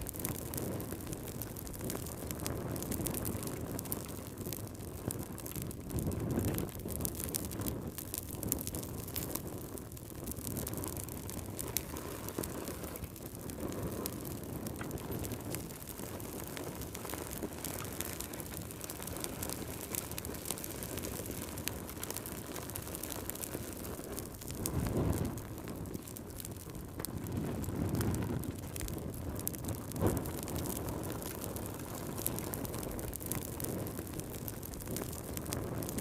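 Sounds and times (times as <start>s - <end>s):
fire crackling and popping: 0.0s - 36.0s
wood fire burning: 0.0s - 36.0s.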